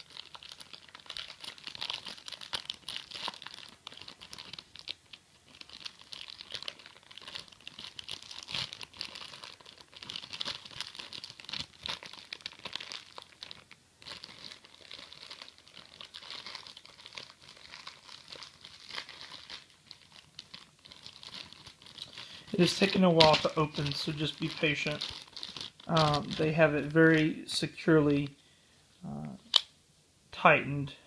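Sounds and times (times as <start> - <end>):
plastic packaging crackling: 0.0 - 28.4.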